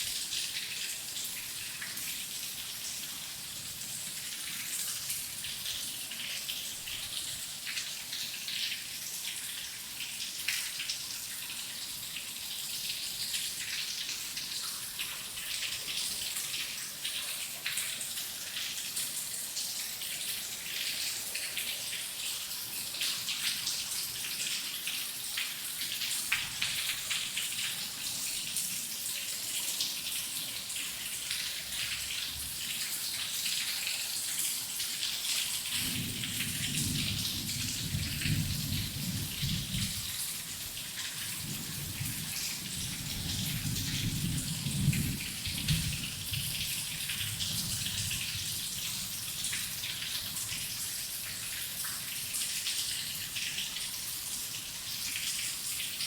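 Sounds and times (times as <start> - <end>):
rain pattering on a hard surface: 0.0 - 56.0.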